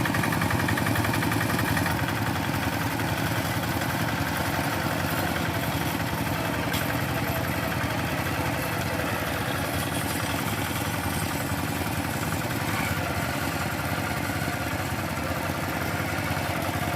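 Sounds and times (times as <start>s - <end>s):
hand tractor engines running: 0.0s - 16.9s.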